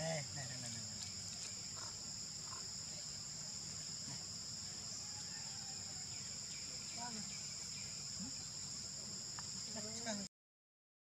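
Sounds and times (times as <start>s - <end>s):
high-pitched insect chorus: 0.0s - 10.3s.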